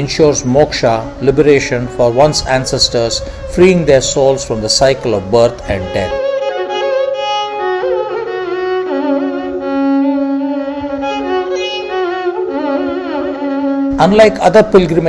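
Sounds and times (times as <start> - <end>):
solo bowed string melody: 0.0 - 15.0.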